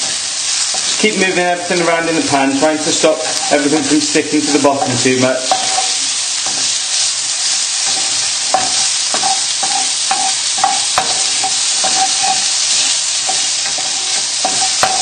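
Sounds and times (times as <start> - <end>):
food sizzling in a pan: 0.0 - 15.0
spatula scraping and knocking a pan: 0.0 - 15.0.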